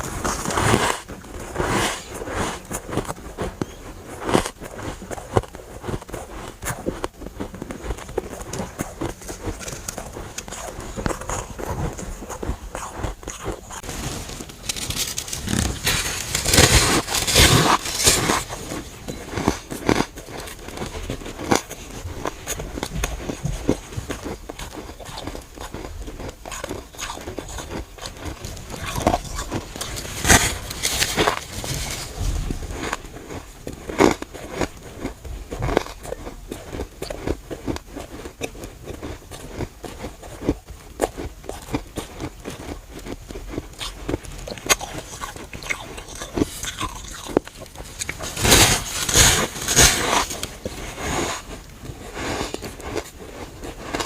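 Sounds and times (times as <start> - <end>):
crunching frost chunks: 0.0 - 54.0.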